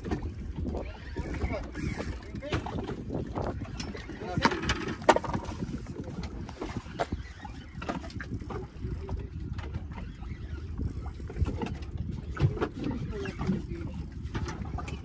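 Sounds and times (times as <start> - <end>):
water lapping against boat hull: 0.0 - 15.0
wind buffeting microphone: 0.0 - 15.0.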